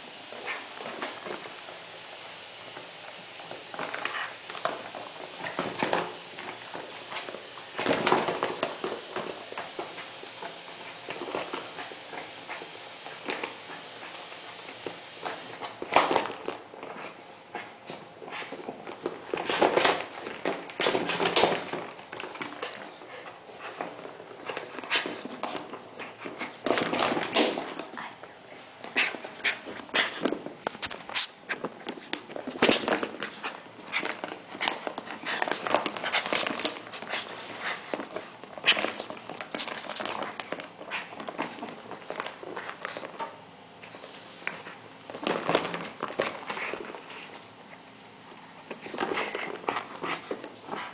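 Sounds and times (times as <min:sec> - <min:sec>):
puppy scuffling on hard floor: 0:00.2 - 0:50.9.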